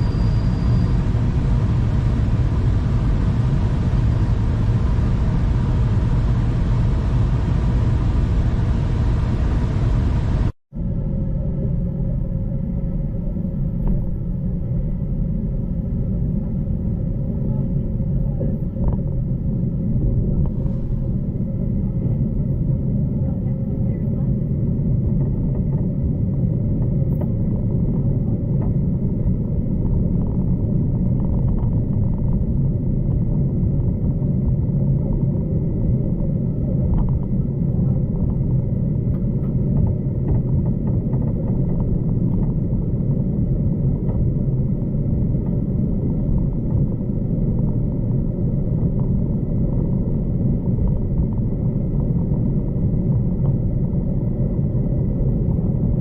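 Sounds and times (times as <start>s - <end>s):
faint steady whine: 0.0s - 56.0s
train rumble inside carriage: 0.0s - 56.0s.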